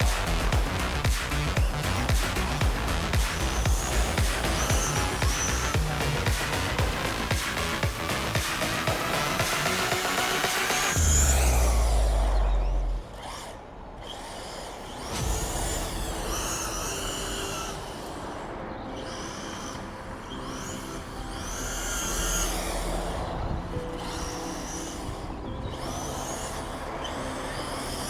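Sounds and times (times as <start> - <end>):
rc car motor whining: 0.0 - 28.0.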